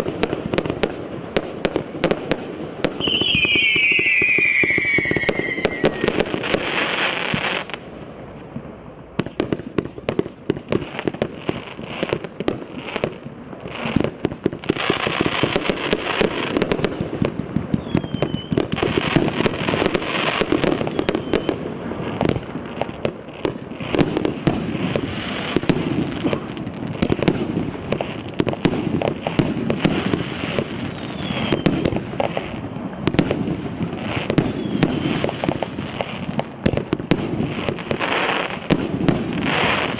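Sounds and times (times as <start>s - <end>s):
fireworks launch pops and bursts: 0.0s - 39.9s.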